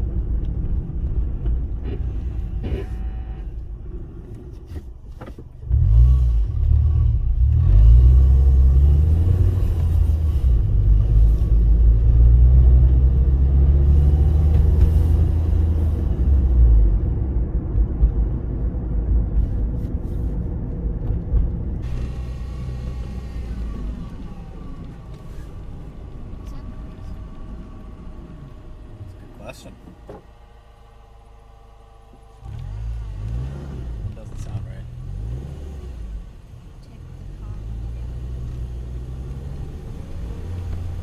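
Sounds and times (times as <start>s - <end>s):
car engine rumbling: 0.0s - 41.0s.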